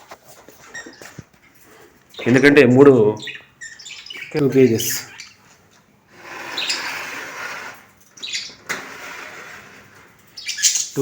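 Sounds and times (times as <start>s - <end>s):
lovebirds squawking and chirping: 0.3s - 11.0s.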